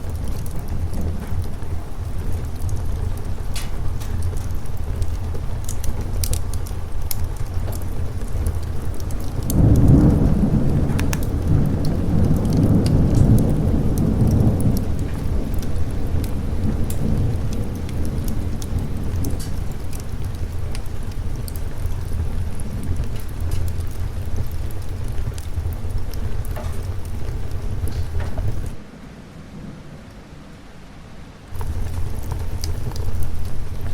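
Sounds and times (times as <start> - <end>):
sharp crackles: 0.0 - 28.8, 31.5 - 33.9
thunder rumbling: 0.0 - 30.6, 31.5 - 33.9
steady rain: 0.0 - 33.9.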